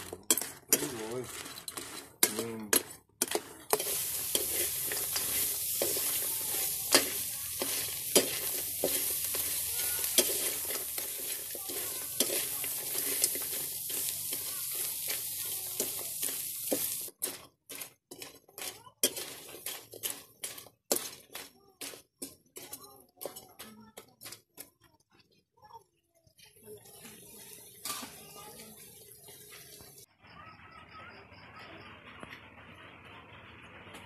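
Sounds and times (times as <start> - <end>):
metal ladle scraping a pan: 0.0 - 24.4, 26.8 - 30.1
crabs sizzling in a wok: 0.0 - 33.4.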